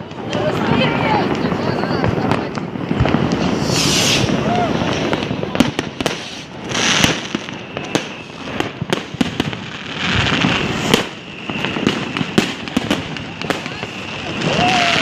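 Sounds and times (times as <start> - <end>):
crackling firework bursts: 0.0 - 15.0
fireworks bangs and pops: 0.0 - 15.0.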